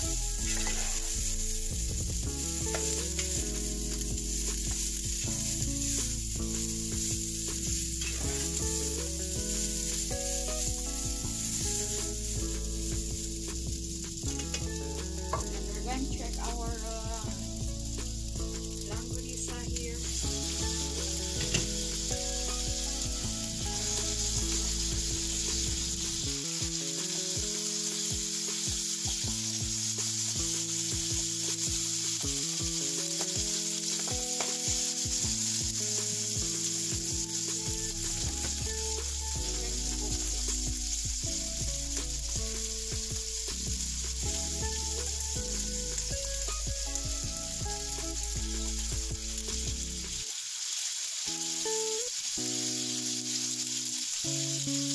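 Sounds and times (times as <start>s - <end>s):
sausages sizzling in a pan: 0.0s - 54.9s.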